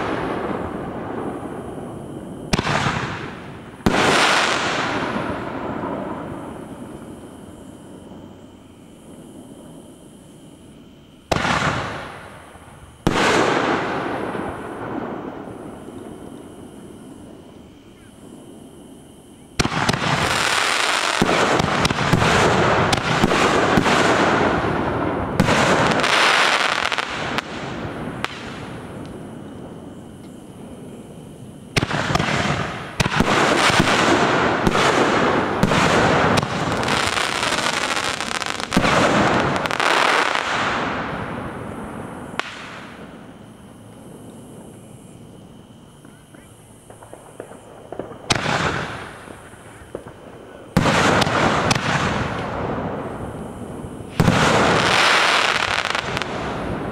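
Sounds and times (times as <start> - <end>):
fireworks banging and crackling: 0.0 - 56.9.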